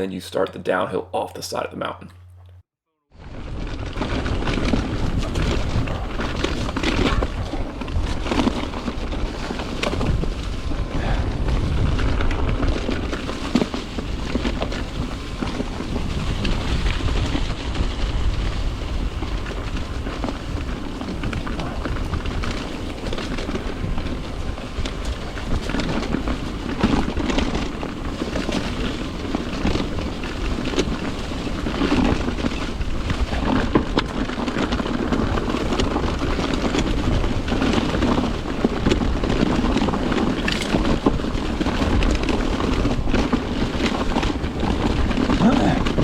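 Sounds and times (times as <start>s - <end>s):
bike rattling: 3.1s - 46.0s
wind rush over microphone: 3.1s - 46.0s
tyres rolling over dirt and rock: 3.2s - 46.0s.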